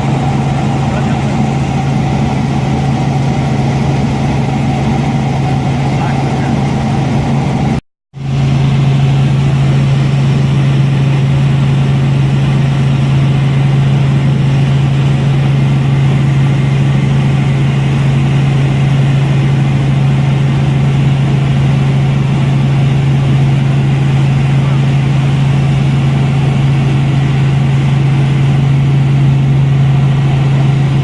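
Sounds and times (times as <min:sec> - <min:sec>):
helicopter engine and rotors droning: 0:00.0 - 0:31.0.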